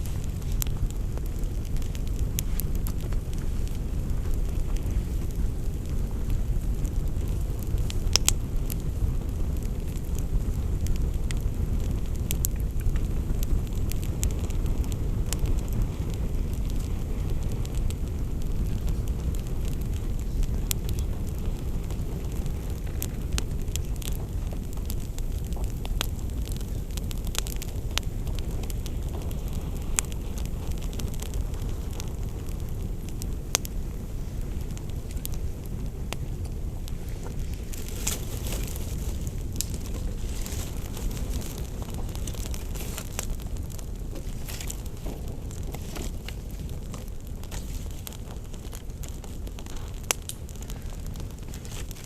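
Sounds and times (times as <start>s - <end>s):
campfire crackling pops: 0.0s - 52.0s
fire rumbling: 0.0s - 52.0s.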